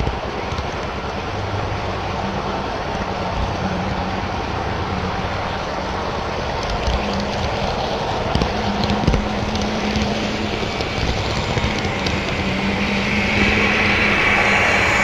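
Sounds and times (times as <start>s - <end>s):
high hiss: 0.0s - 15.0s
wheels clicking on track: 0.0s - 15.0s
model train motor hum: 2.0s - 15.0s.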